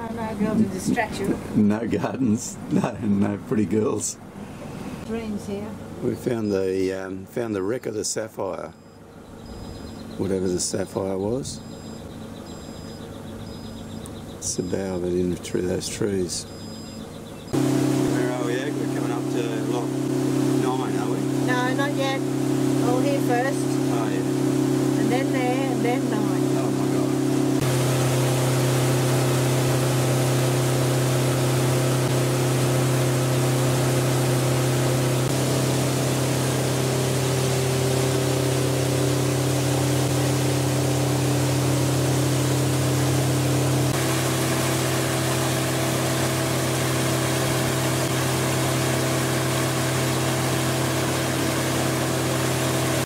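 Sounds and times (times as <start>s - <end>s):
powerboat engine running: 0.0s - 53.0s.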